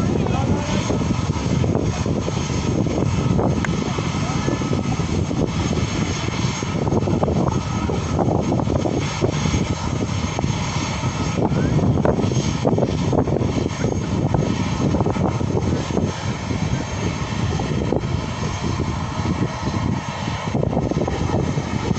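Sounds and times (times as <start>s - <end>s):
jet engines rumbling: 0.0s - 21.9s.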